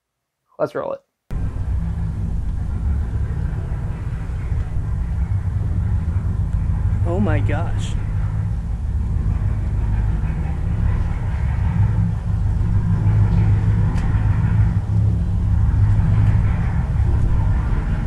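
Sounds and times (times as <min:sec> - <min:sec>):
boat engines rumbling: 0:01.3 - 0:18.0.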